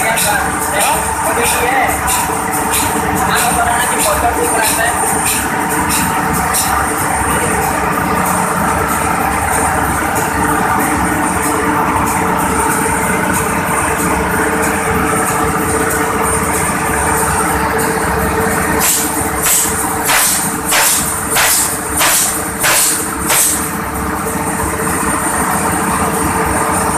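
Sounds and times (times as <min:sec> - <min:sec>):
ship diesel engine running: 0:00.0 - 0:26.9.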